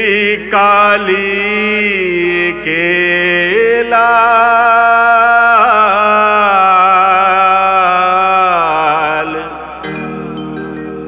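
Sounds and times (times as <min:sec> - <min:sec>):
person singing a long note: 0:01.1 - 0:10.6.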